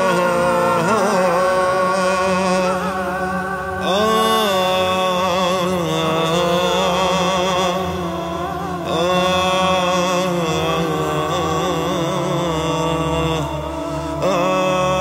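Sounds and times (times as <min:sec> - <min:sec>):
low drone: 0:00.0 - 0:15.0
person singing long held notes: 0:00.0 - 0:15.0.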